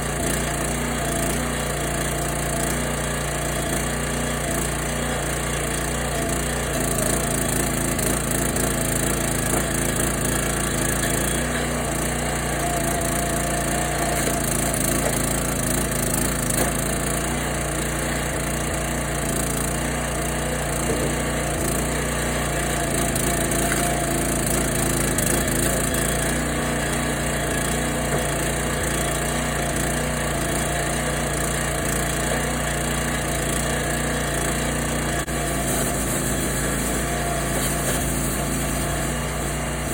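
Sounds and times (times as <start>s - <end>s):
log splitter engine running: 0.0s - 39.9s
wood splitting and splintering: 0.0s - 39.9s.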